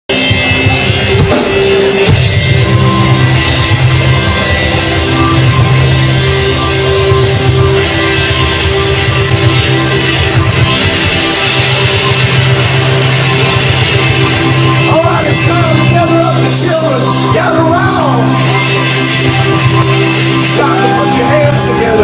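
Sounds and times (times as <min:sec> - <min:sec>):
live rock band playing: 0:00.1 - 0:22.0.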